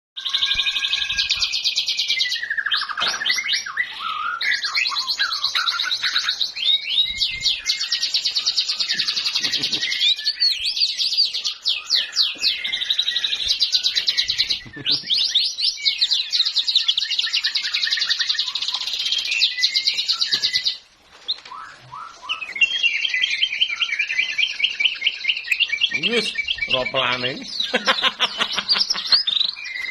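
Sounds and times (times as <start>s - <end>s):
songbird singing trills and whistles: 0.2s - 29.9s.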